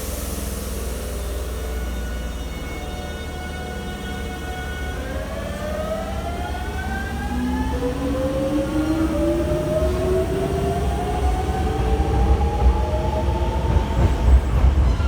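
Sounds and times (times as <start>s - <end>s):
electric train motor whine: 0.0s - 14.7s.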